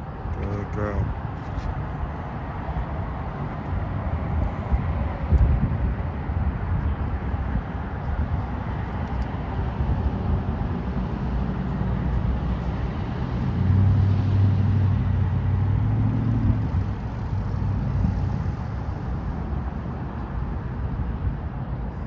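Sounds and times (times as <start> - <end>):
road traffic noise: 0.0 - 22.0
vehicle engine hum: 0.0 - 22.0.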